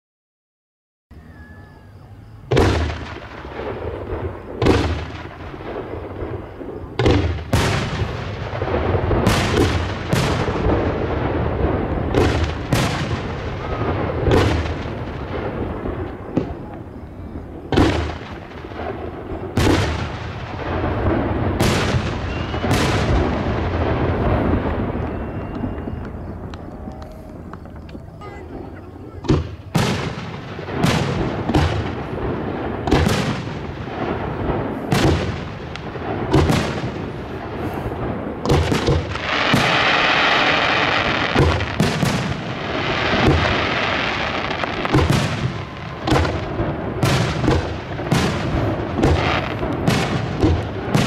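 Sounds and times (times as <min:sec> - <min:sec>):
firework bangs with echoing rumble: 0:02.5 - 0:51.0.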